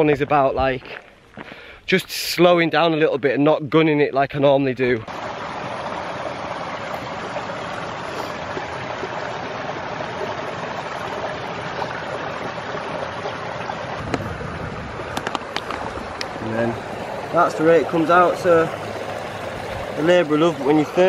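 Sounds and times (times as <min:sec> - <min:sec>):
stream running over stones: 0:02.4 - 0:21.0.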